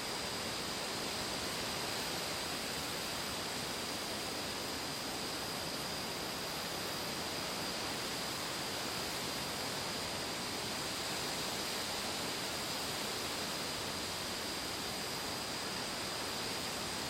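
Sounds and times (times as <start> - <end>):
faint high hiss: 0.0 - 17.0.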